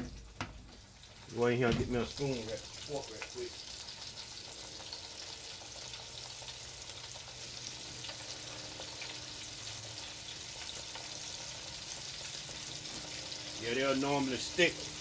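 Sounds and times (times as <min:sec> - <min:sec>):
pork chops deep-frying in oil: 0:00.0 - 0:15.0.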